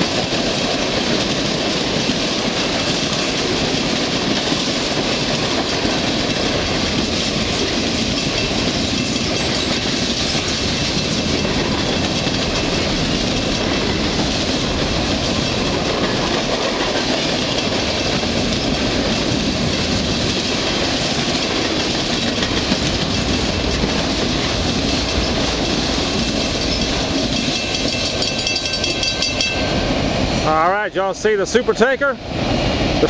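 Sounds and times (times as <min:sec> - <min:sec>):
freight train wheels clattering: 0:00.0 - 0:33.0.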